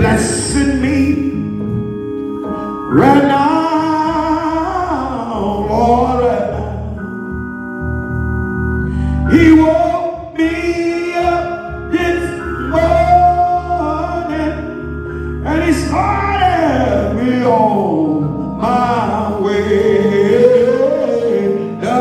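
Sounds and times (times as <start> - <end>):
man singing gospel song: 0.0 - 1.8, 2.8 - 7.4, 9.2 - 22.0
sustained instrument chords: 0.0 - 22.0.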